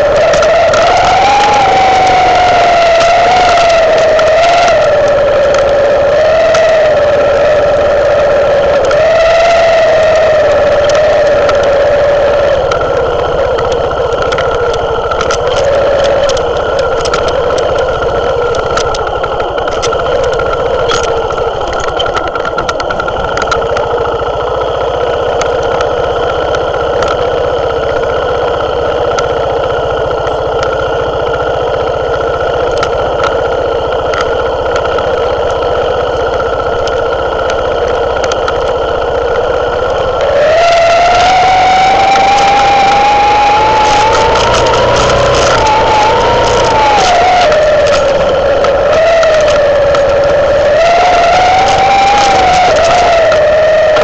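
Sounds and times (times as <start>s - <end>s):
clicks and rattles over stones: 0.0s - 54.0s
motorcycle engine running: 0.0s - 54.0s.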